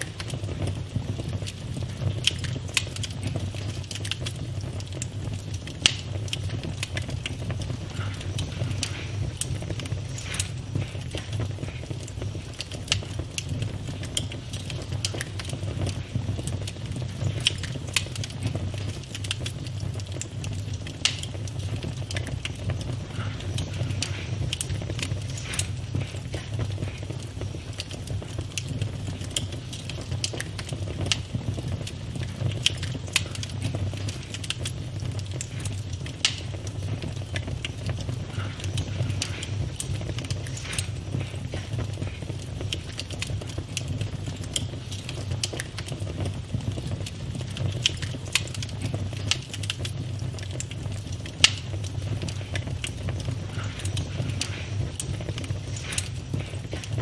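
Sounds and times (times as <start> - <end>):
flames rumbling: 0.0 - 57.0
wood crackling and popping: 0.0 - 57.0.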